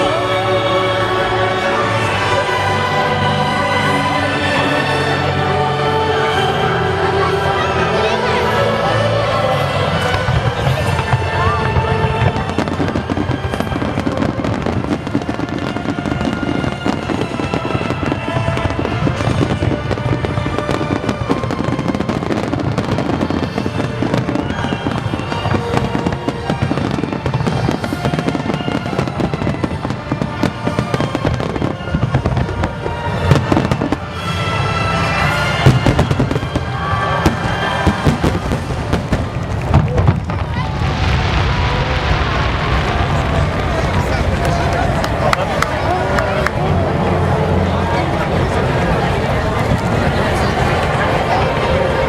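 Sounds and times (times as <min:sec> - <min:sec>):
fireworks bursting and crackling: 0:07.5 - 0:52.0.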